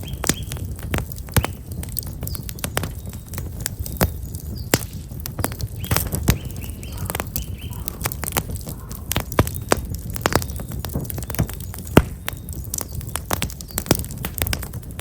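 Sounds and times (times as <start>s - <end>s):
small birds chirping: 0.0s - 14.6s
fire crackling and popping: 0.0s - 15.0s.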